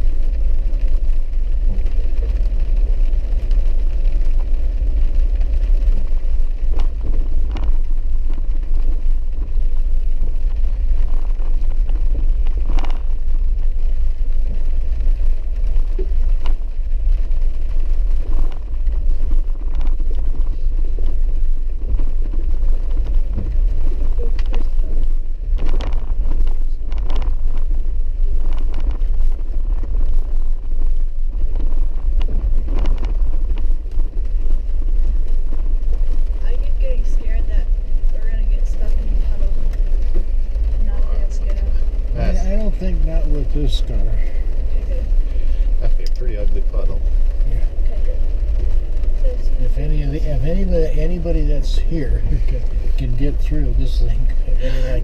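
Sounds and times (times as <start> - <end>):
engine and tyres rumbling: 0.0 - 55.0.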